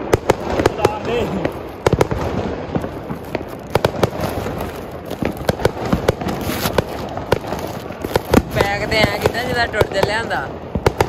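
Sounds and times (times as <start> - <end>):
firecrackers banging: 0.0 - 11.0.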